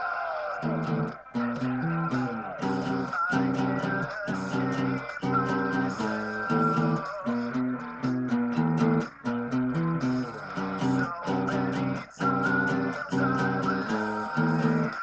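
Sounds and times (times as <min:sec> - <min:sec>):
acoustic guitar strumming: 0:00.6 - 0:15.0.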